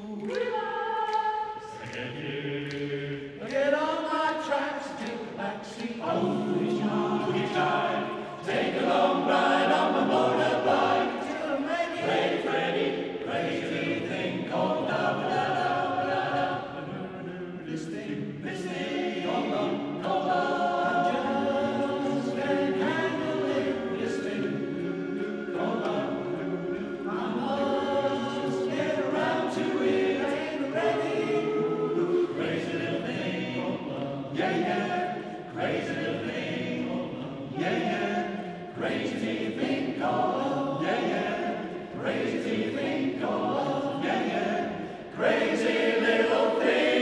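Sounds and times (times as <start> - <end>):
men's chorus singing in harmony: 0.0 - 47.0.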